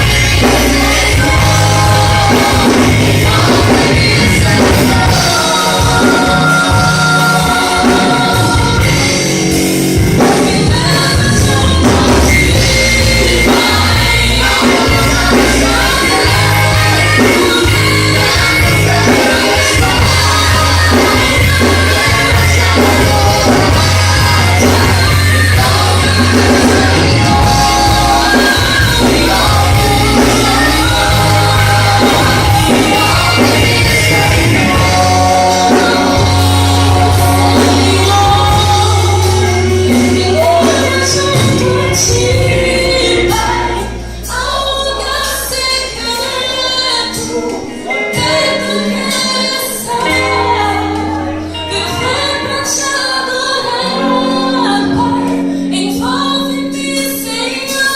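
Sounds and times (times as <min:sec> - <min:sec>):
strong bass line: 0:00.0 - 0:48.4
band accompaniment: 0:00.0 - 0:57.9
choir singing a worship song: 0:00.0 - 0:57.9.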